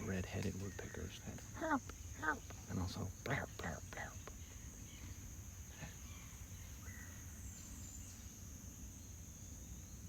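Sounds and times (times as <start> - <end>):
faint woodpecker calls: 0.0 - 10.0
insects droning: 0.0 - 10.0.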